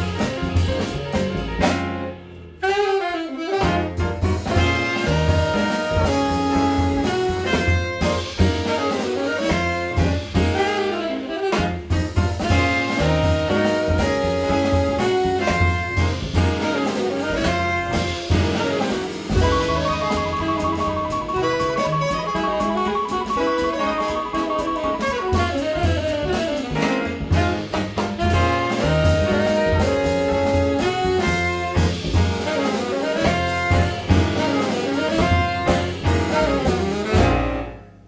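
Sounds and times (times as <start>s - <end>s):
jazz band playing: 0.0s - 38.0s.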